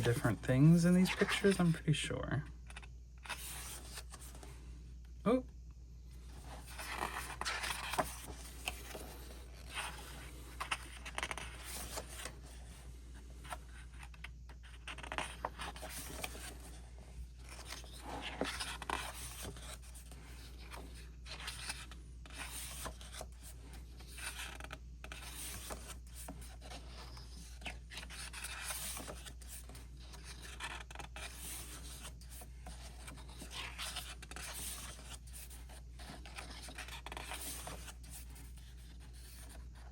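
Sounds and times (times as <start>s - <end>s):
book pages turning: 0.0s - 2.0s, 2.6s - 4.4s, 6.3s - 39.9s.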